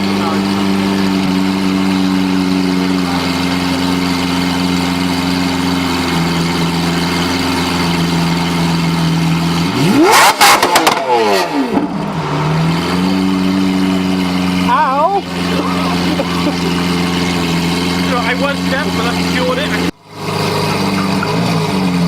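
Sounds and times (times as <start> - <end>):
car engine idling: 0.0 - 22.0
engine revving hard: 0.0 - 22.0.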